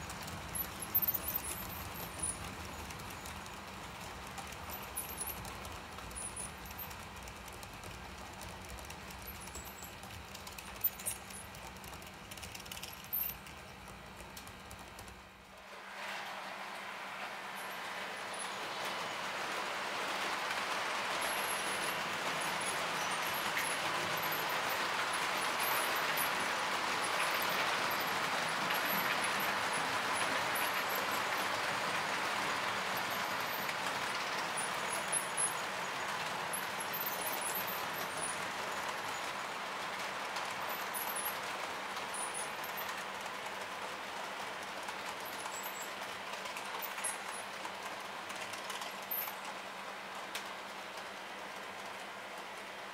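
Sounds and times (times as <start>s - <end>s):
model trains rolling hum: 0.0s - 52.9s.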